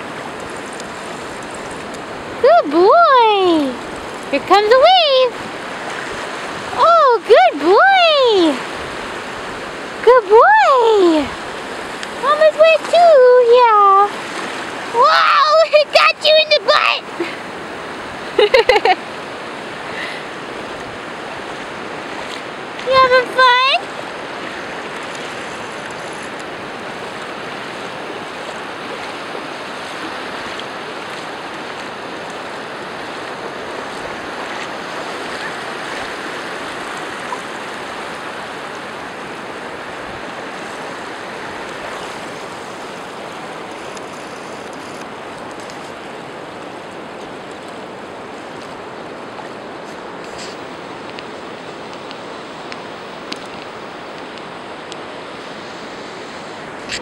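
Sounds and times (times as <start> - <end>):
shallow ocean surf: 0.0 - 57.0.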